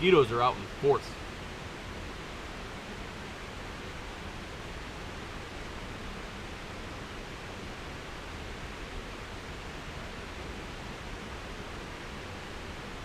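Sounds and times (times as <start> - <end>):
steady hiss-like outdoor rush: 0.0 - 13.0.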